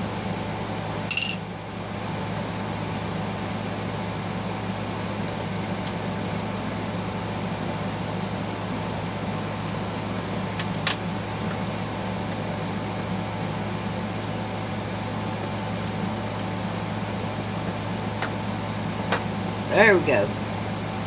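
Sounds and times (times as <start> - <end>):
fan-like hum: 0.0 - 21.0.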